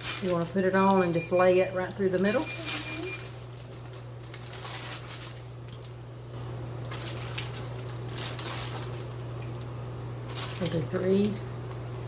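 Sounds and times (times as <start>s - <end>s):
ham crinkling and rustling: 0.0s - 12.0s
steady low hum: 0.0s - 12.0s.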